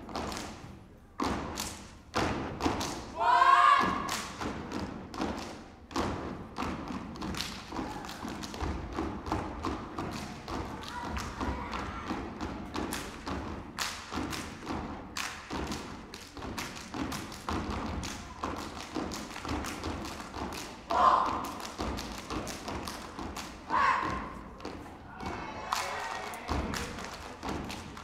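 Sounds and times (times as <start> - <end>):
hand claps and body slaps: 0.1 - 3.1, 3.9 - 24.9, 25.6 - 28.0.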